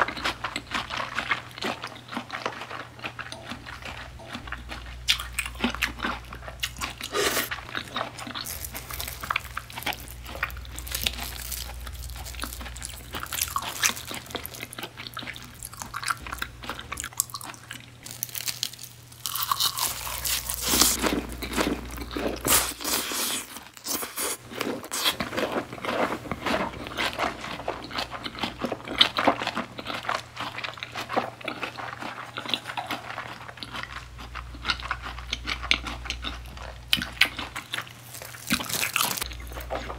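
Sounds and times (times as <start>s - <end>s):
close chewing and crunching: 0.0s - 39.9s.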